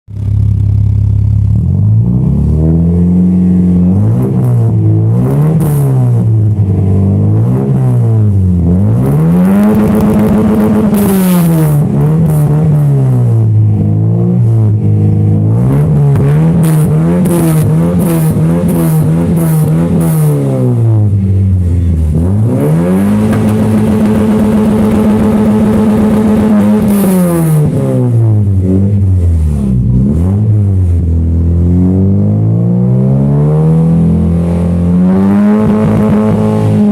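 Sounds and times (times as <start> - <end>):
car engine revving: 0.1 - 36.9.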